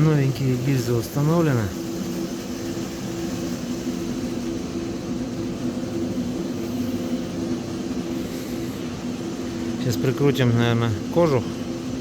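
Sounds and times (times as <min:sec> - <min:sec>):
machine droning: 0:00.0 - 0:12.0.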